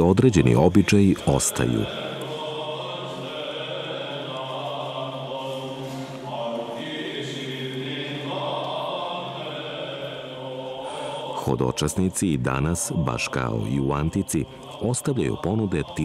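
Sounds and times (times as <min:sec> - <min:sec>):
voices chanting long notes: 0:00.4 - 0:16.0.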